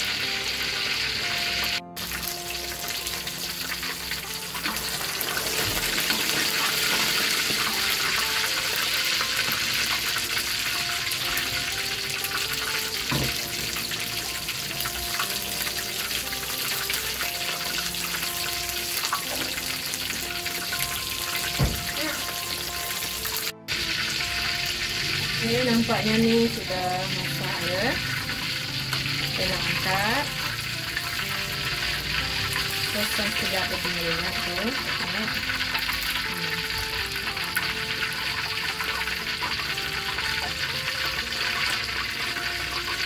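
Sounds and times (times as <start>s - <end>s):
duck deep-frying in oil: 0.0s - 43.0s.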